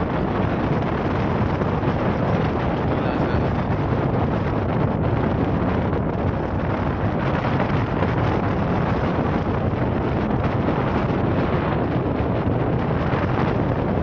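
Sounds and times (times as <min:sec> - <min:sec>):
ship engine drone: 0:00.0 - 0:14.0
wind buffeting the microphone: 0:00.0 - 0:14.0.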